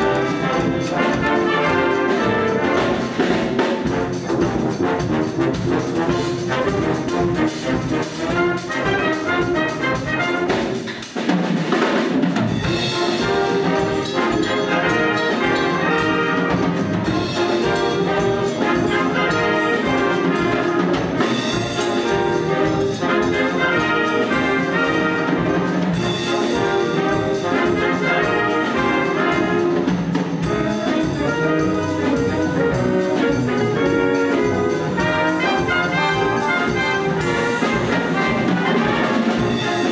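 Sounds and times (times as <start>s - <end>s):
concert wind band playing: 0.0s - 39.9s.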